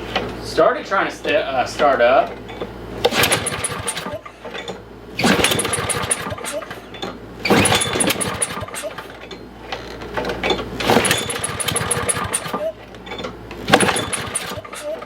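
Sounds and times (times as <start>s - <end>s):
mower engine pull-starting: 2.5s - 15.0s.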